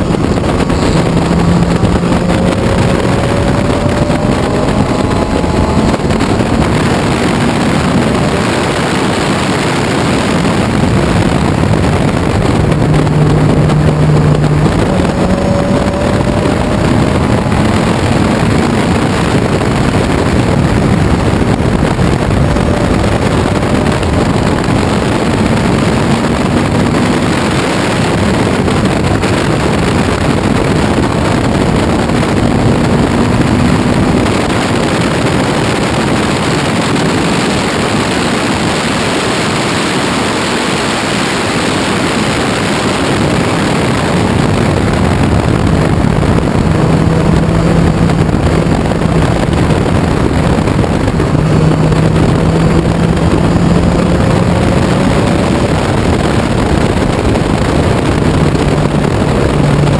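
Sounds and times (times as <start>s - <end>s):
sports car engine racing: 0.0s - 59.9s
wind rushing on microphone: 0.0s - 59.9s.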